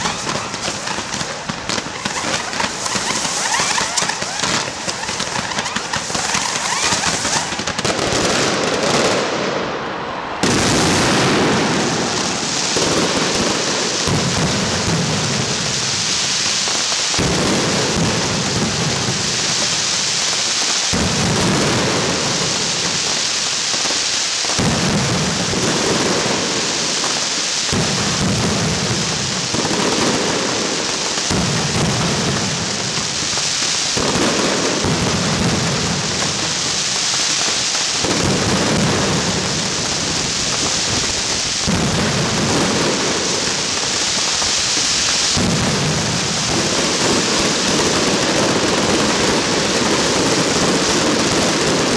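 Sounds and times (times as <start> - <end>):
firecracker barrage: 0.0 - 51.9.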